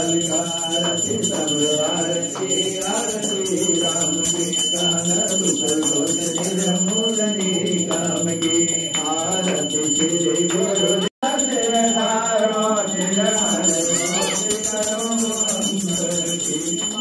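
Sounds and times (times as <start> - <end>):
bell ringing: 0.0 - 17.0
devotional singing: 0.0 - 17.0.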